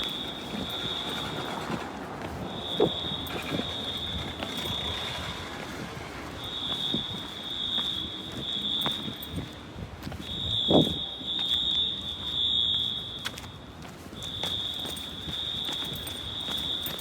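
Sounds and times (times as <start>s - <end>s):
distant fire alarm horns: 0.0s - 17.0s.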